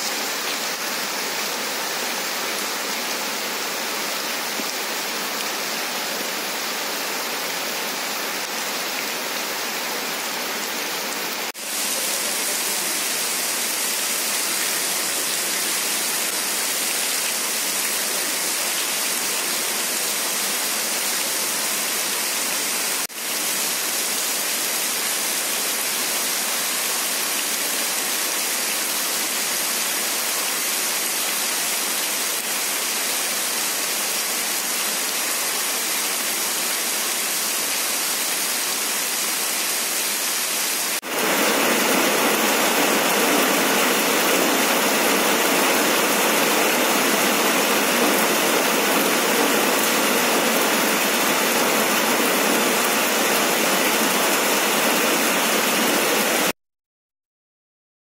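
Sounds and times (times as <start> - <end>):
heavy rain falling: 0.0 - 56.6.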